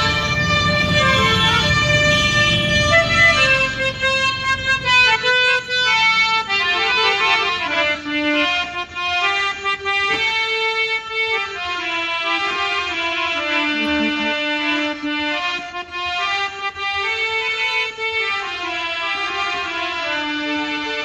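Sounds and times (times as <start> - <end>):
harmonium melody of held notes: 0.0 - 21.0.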